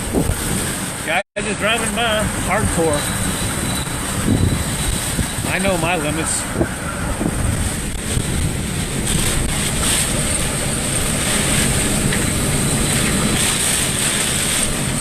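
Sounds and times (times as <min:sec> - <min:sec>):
wind buffeting microphone: 0:00.0 - 0:01.1, 0:02.1 - 0:15.0
strong wind blowing: 0:00.0 - 0:15.0.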